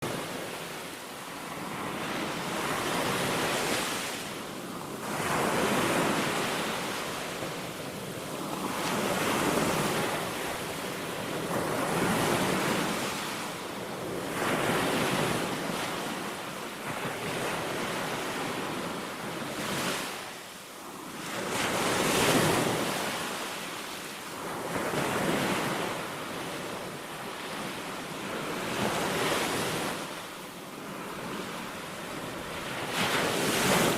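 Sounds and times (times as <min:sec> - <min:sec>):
waves breaking on sandy beach: 0:00.0 - 0:33.9.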